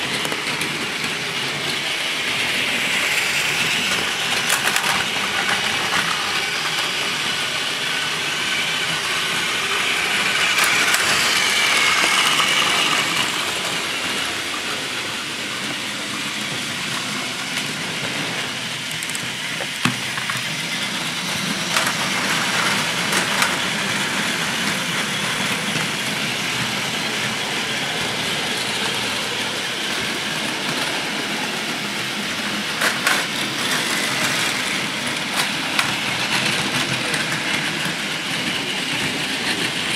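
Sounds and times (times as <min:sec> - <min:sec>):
toy train motors whirring: 0:00.0 - 0:39.9
wheels rattling over plastic track: 0:00.0 - 0:39.9.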